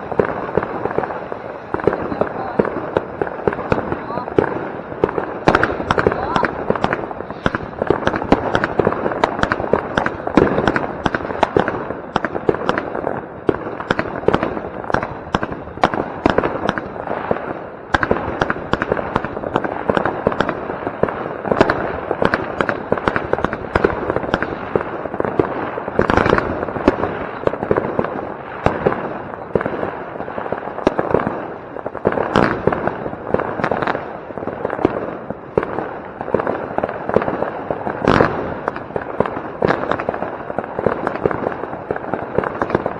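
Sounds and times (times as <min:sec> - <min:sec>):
fireworks banging and crackling: 0:00.0 - 0:42.9.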